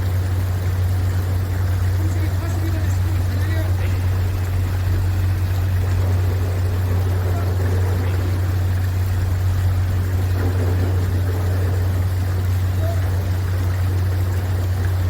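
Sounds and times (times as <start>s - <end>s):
low mechanical hum: 0.0s - 15.0s
water trickling: 0.0s - 15.0s.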